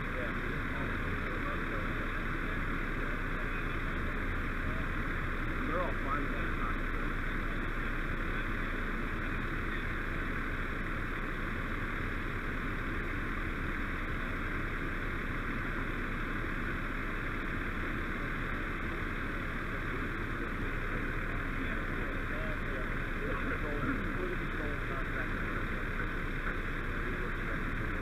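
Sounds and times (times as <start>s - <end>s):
diesel truck engines rumbling: 0.0s - 28.0s.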